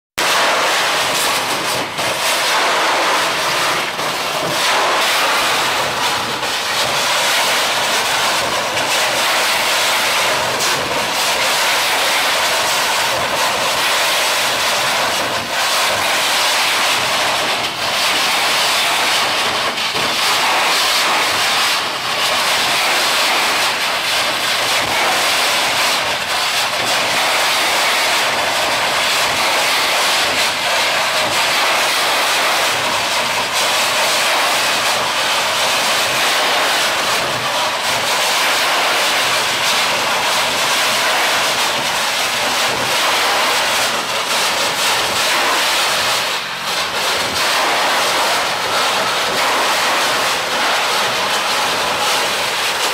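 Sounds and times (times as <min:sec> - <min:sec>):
high-pressure water jet blasting: 0:00.2 - 0:52.9.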